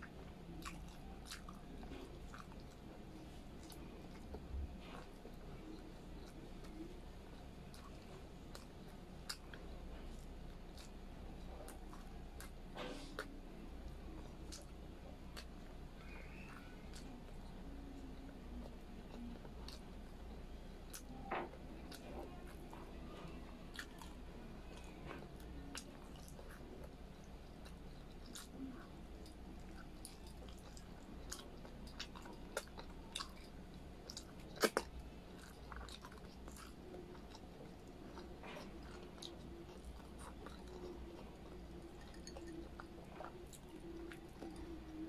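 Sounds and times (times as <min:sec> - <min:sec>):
person chewing: 0:00.0 - 0:45.0.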